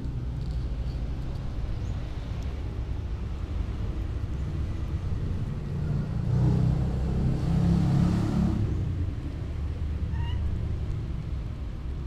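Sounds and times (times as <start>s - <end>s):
vehicle passing with low rumble: 0.0s - 12.0s.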